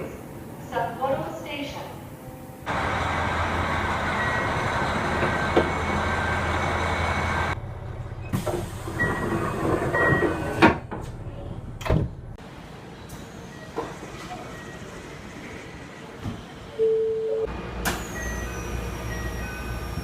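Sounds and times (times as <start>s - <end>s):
train noise with low hum: 0.0s - 20.0s.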